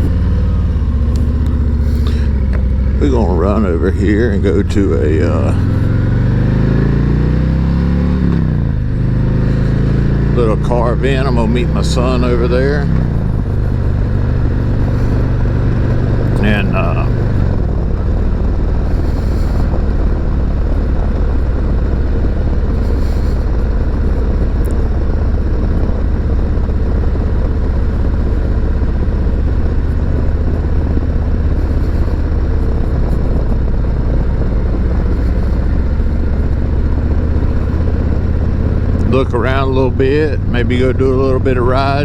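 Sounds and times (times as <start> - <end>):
motorcycle engine rumbling: 0.0 - 42.0.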